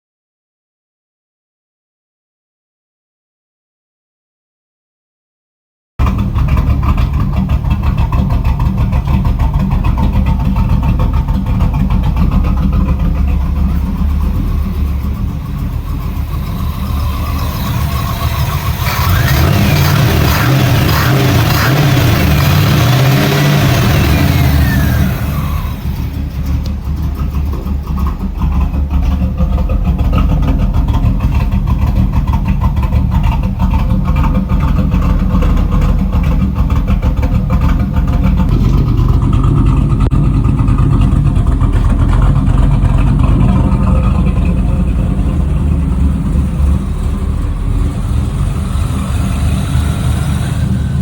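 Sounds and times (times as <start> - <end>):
car engine revving then idling: 6.0 - 51.0.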